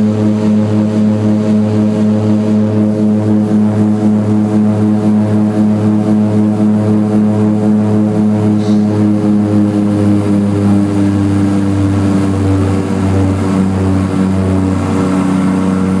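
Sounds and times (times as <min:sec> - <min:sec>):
propeller engine droning: 0:00.0 - 0:16.0.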